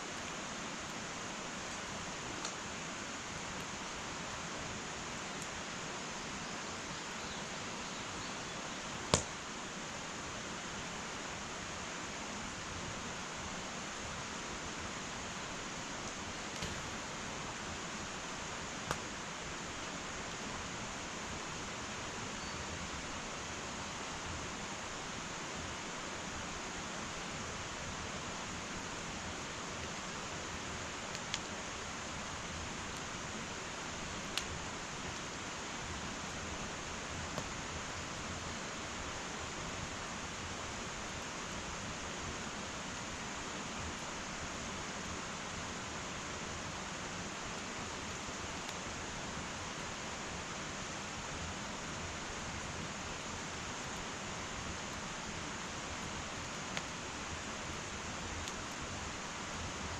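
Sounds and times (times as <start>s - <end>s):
wood fire hissing and crackling: 0.0s - 59.9s.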